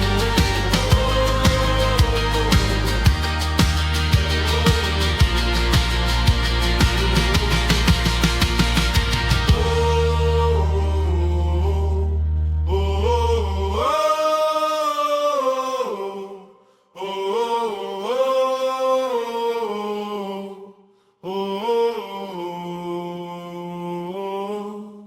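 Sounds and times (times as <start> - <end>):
voices singing worship song: 0.0 - 25.0.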